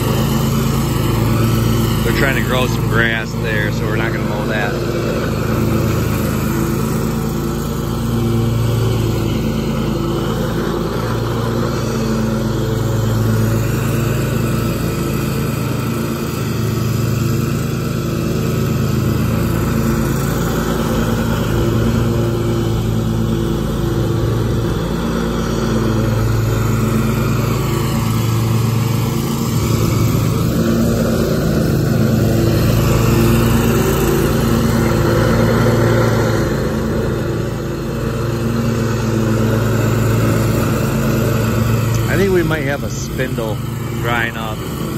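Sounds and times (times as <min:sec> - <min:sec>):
lawn mower engine drone: 0:00.0 - 0:44.9.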